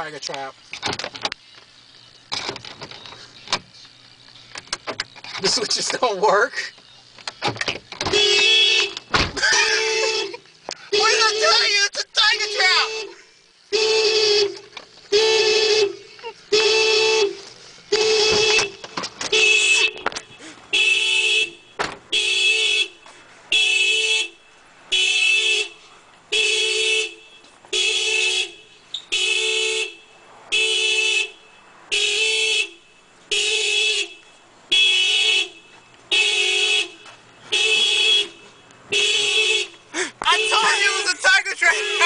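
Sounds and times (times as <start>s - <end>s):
car alarm horn honks: 8.0s - 42.0s.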